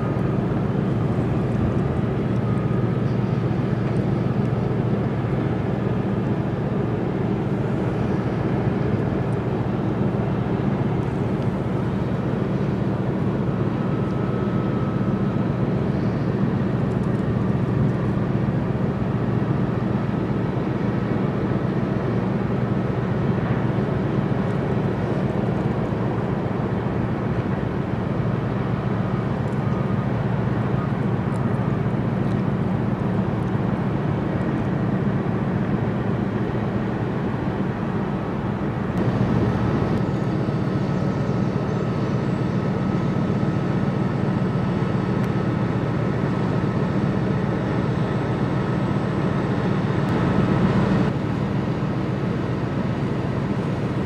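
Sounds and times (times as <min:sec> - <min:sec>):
boat engine droning: 0:00.0 - 0:54.0
faint steady whine: 0:00.0 - 0:54.0.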